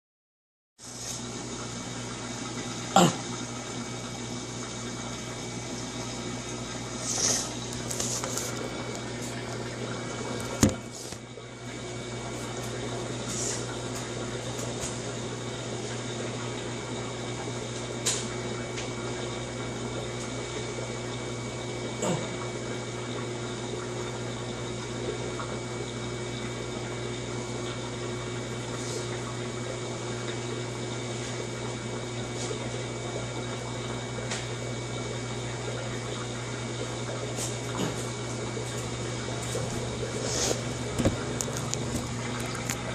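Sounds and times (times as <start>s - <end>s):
electrical hum: 0.8s - 42.9s
washing machine running: 0.8s - 42.9s.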